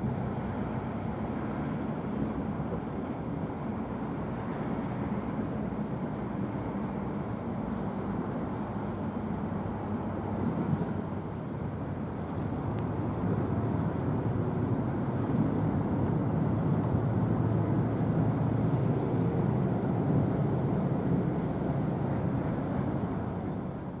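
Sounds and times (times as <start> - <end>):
distant engines rumbling: 0.0 - 24.0.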